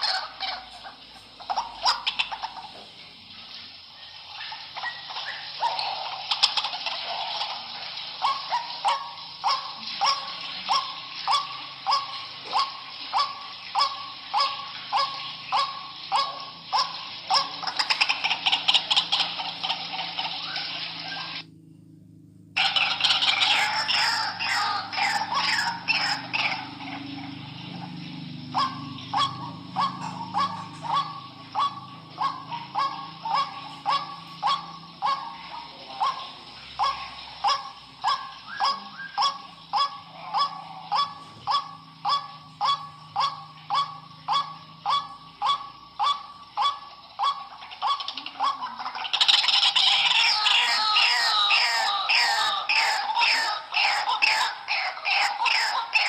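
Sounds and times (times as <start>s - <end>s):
waterhen calling: 0.0s - 21.5s, 22.6s - 56.0s.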